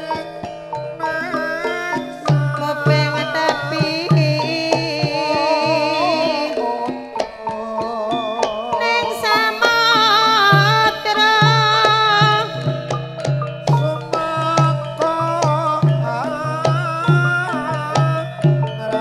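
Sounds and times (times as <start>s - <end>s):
gamelan gongs and metallophones: 0.0s - 19.0s
woman singing ornamented melody: 0.0s - 19.0s.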